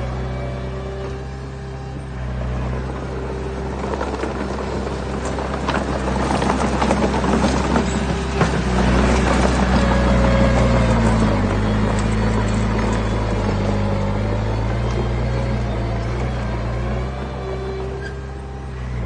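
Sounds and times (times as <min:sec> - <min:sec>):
heavy diesel engine under load: 0:00.0 - 0:19.0.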